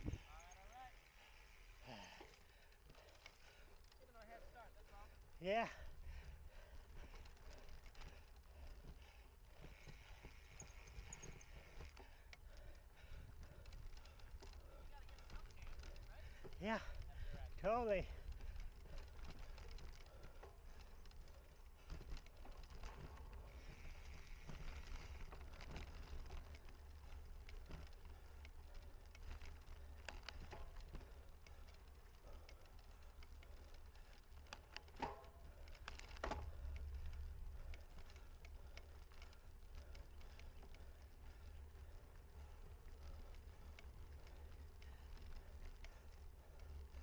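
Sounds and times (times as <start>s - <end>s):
bicycle clicks and rattles: 0.0s - 47.0s.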